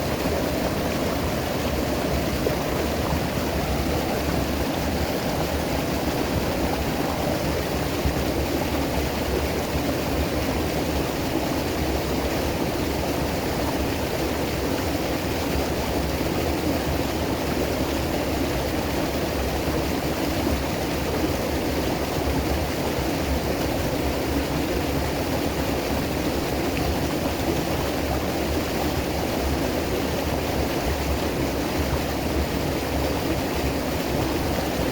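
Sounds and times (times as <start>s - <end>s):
river water rushing over rocks: 0.0s - 34.9s.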